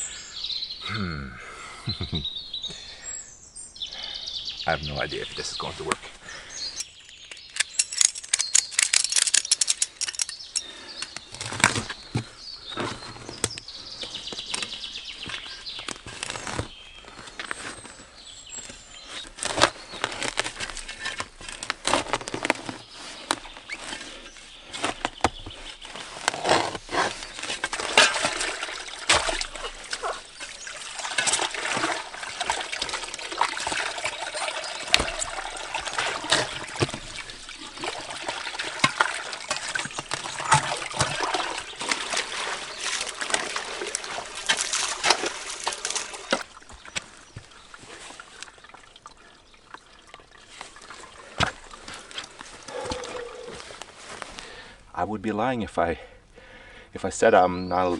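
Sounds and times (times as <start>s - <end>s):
water trickling and splashing: 4.7s - 54.8s.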